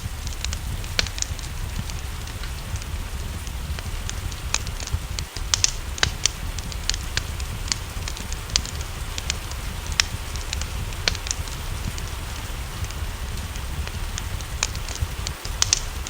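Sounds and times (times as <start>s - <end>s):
low fire rumble: 0.0s - 16.0s
rain hissing: 0.0s - 16.0s
wood fire crackling and popping: 0.0s - 16.0s.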